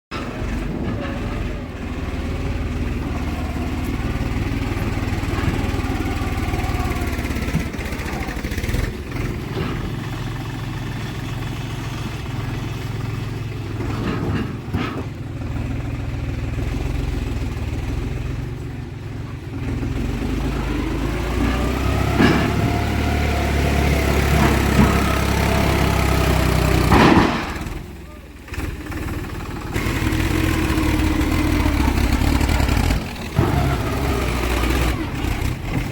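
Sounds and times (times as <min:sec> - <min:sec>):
diesel engine under load: 0:00.1 - 0:35.9.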